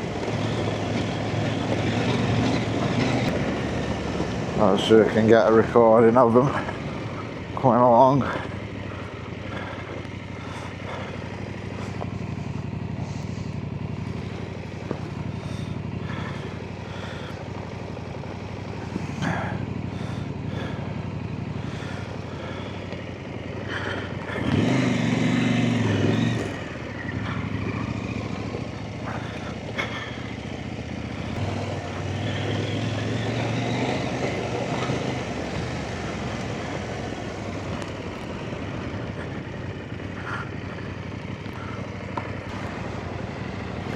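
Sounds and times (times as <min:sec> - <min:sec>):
motorcycle riding past: 0:00.0 - 0:43.9
off-road motorcycle engines: 0:00.0 - 0:43.9.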